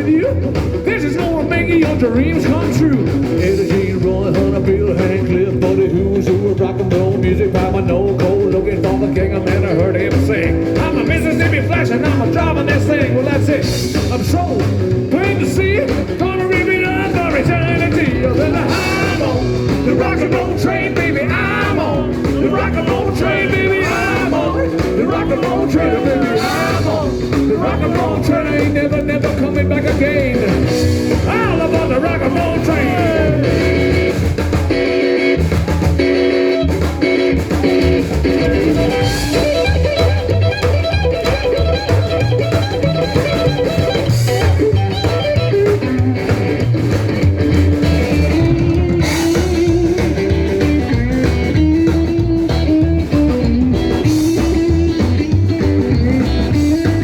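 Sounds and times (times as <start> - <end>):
lead guitar: 0.0 - 57.0
rockabilly band playing live: 0.0 - 57.0.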